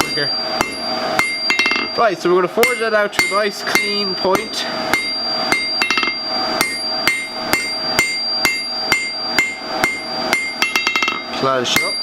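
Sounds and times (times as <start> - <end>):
hammer striking steel on anvil: 0.0 - 2.0, 2.6 - 12.0.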